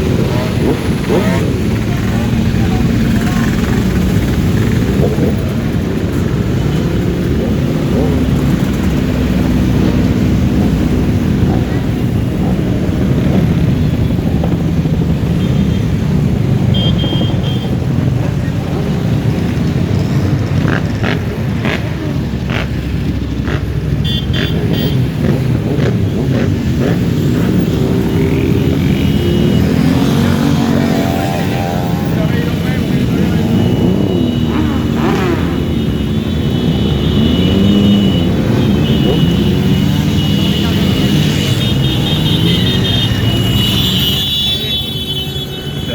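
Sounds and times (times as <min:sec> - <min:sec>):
motorcycle engines droning: 0:00.0 - 0:45.9.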